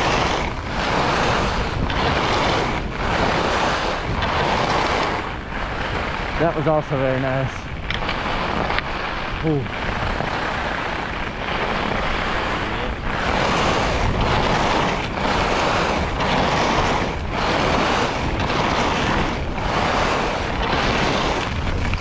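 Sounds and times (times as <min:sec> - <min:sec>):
skis scraping on snow: 0:00.0 - 0:22.0
wind noise on microphone: 0:00.0 - 0:22.0.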